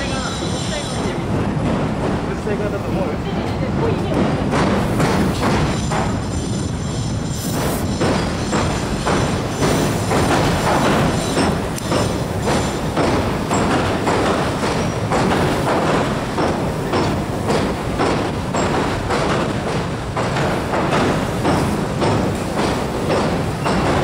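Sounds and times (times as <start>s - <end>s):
train rumbling over bridge: 0.0s - 24.0s.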